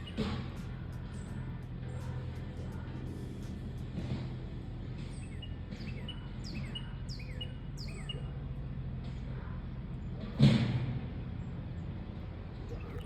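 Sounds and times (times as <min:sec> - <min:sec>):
songbird calling: 0:00.0 - 0:03.9, 0:04.9 - 0:10.3, 0:11.3 - 0:13.0
low hum: 0:00.0 - 0:13.0.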